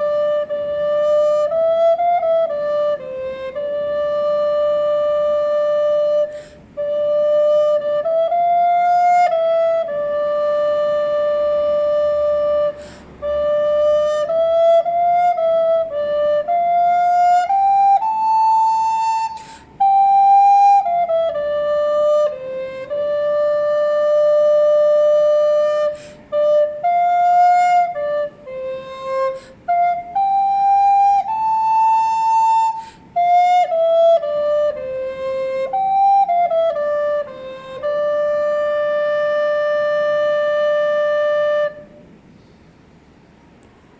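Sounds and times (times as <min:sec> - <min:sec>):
recorder playing slow melody: 0:00.0 - 0:42.3.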